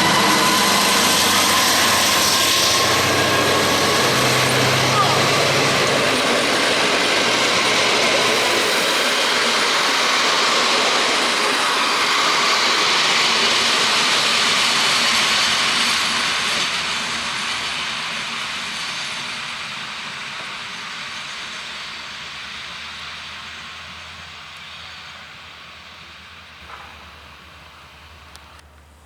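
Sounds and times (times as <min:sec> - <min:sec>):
diesel train passing: 0:00.0 - 0:29.0
wheels rumbling on rails: 0:00.0 - 0:29.0.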